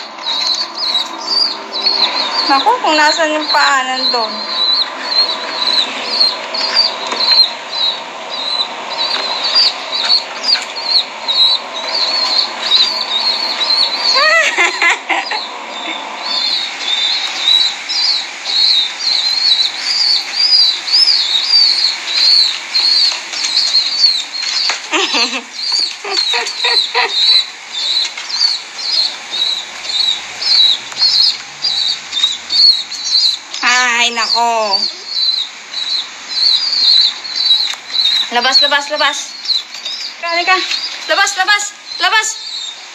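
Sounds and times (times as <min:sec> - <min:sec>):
young bird peeping: 0:00.0 - 0:42.9.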